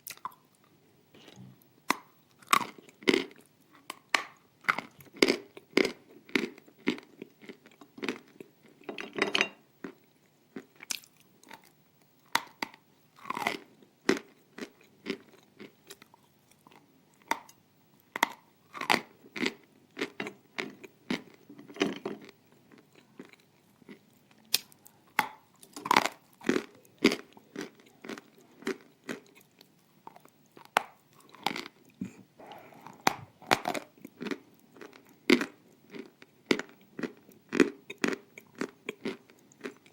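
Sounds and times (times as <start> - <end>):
crunchy chewing: 0.0 - 8.9, 9.8 - 39.9.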